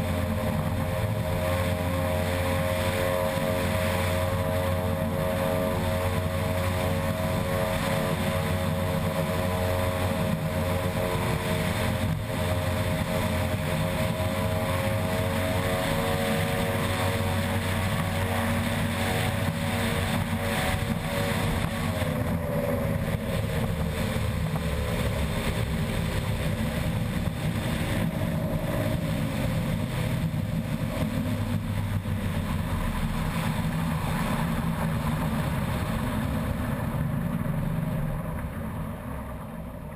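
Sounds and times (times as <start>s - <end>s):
boat engine running hard: 0.0s - 39.9s
constant rushing noise: 0.0s - 39.9s.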